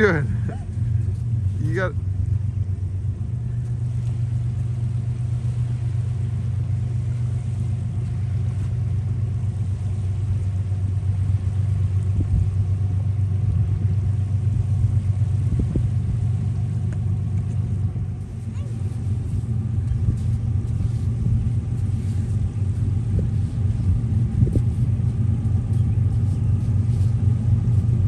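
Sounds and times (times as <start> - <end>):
distant diesel locomotive rumbling: 0.0 - 28.0.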